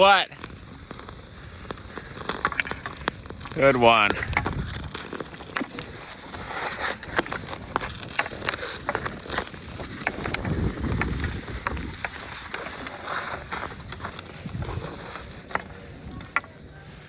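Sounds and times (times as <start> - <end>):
ice skate blades scraping ice: 0.0 - 17.0
wind rumbling on microphone: 2.6 - 17.0.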